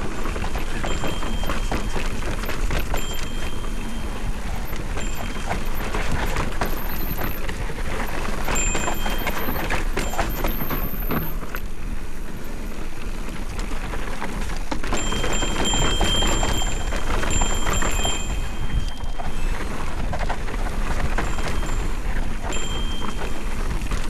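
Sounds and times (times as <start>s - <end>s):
bike rattling over ground: 0.0s - 24.0s
wind rumble on microphone: 0.0s - 24.0s.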